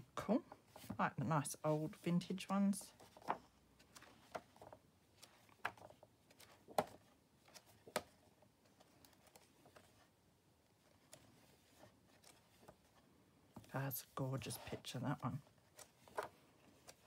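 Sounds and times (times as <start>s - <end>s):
book pages turning: 0.5s - 17.0s.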